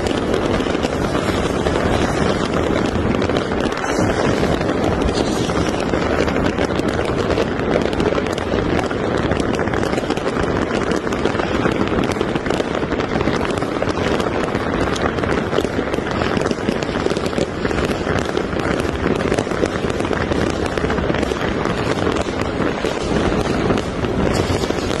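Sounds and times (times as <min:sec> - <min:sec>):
fireworks and firecrackers crackling: 0:00.0 - 0:25.0.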